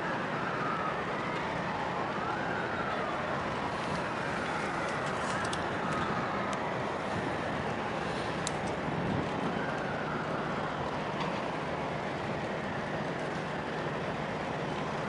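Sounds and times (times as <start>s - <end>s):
distant siren wailing: 0.0s - 15.0s
outdoor background noise: 0.0s - 15.0s.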